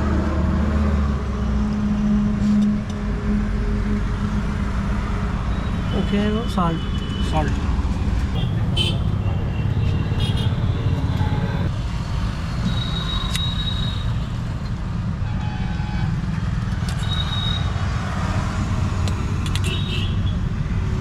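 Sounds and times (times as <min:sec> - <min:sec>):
passing vehicles rumbling: 0:00.0 - 0:21.0.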